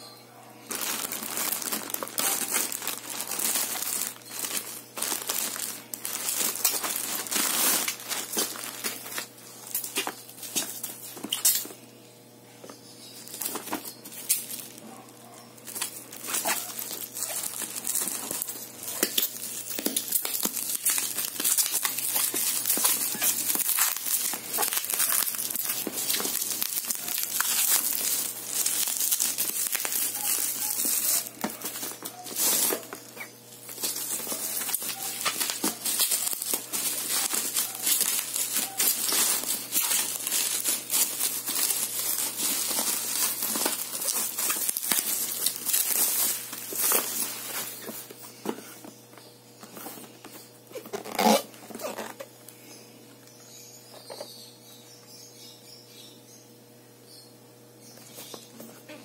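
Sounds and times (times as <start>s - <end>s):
bubble wrap and plastic crinkling: 0.6s - 11.9s, 12.6s - 54.4s.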